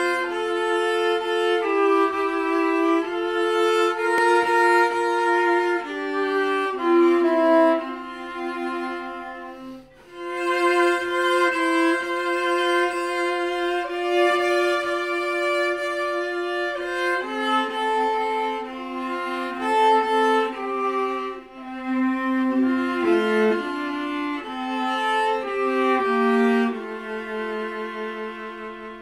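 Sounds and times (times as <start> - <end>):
viola and cello duet: 0.0 - 29.0.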